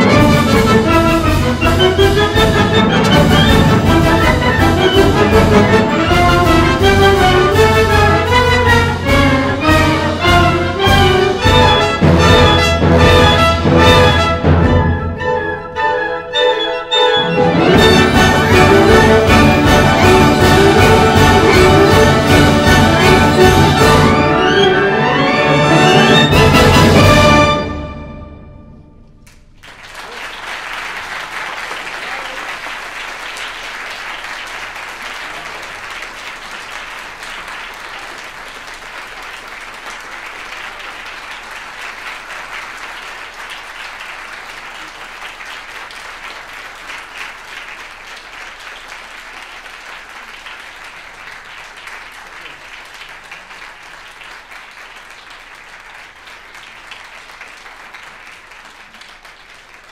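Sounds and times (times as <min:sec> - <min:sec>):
audience applauding: 0:00.0 - 0:15.6, 0:16.6 - 0:27.8, 0:29.2 - 0:59.9.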